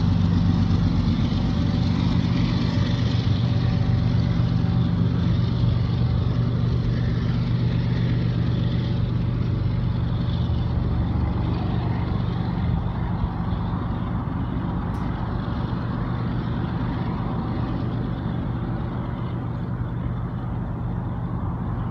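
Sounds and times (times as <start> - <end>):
diesel locomotive engine drone: 0.0 - 21.9.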